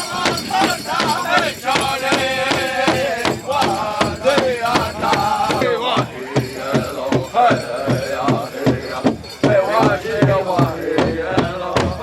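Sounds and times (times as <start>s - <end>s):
big drum steady beat: 0.0s - 12.0s
voices chanting: 0.0s - 12.0s.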